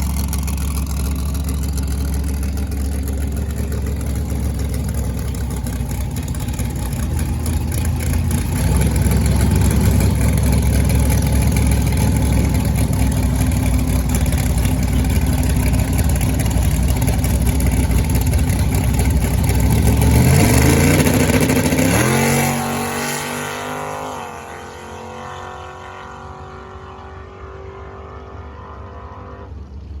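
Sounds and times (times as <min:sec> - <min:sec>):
engine at full throttle: 0:00.0 - 0:30.0.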